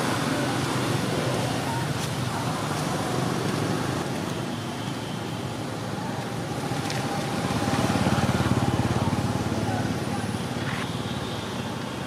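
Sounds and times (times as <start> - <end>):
vehicle engine: 0.0 - 4.6, 5.4 - 12.0
traffic rumble: 0.0 - 12.0.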